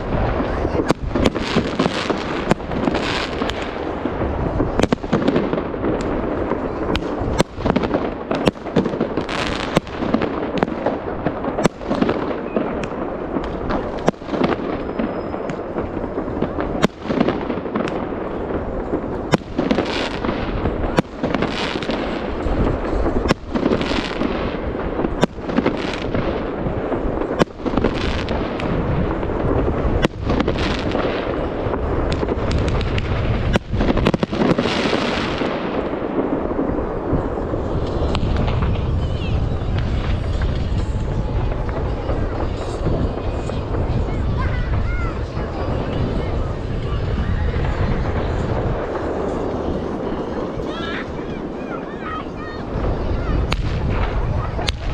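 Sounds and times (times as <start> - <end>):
fireworks sharp bangs: 0.0 - 54.9.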